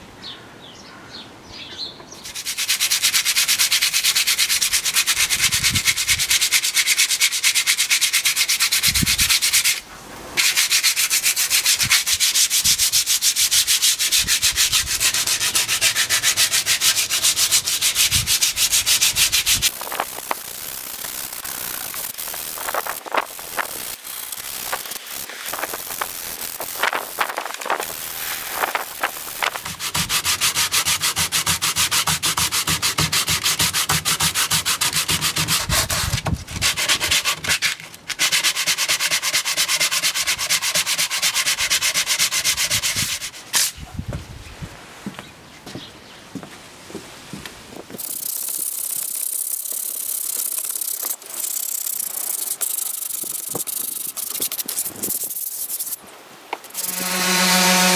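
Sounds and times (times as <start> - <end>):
sandpaper rubbing on wood: 2.2 - 9.8, 10.4 - 43.8, 48.0 - 56.0, 56.6 - 57.9.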